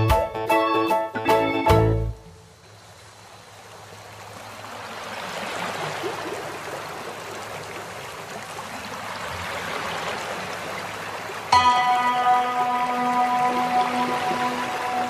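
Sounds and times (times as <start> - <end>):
running water rushing: 2.0 - 15.0.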